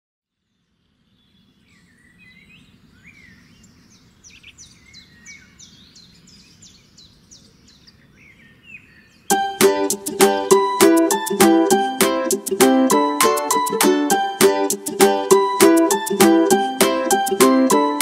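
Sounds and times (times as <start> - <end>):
birds chirping: 0.9 - 18.0.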